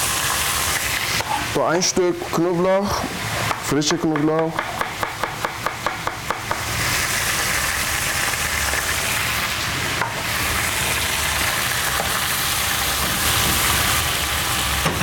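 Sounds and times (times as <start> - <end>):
meat sizzling in a frying pan: 0.0 - 2.1, 4.8 - 15.0.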